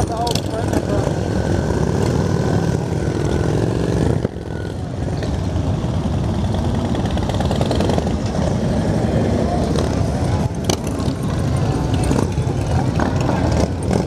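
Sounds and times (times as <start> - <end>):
motorcycle engines rumbling: 0.0 - 14.0.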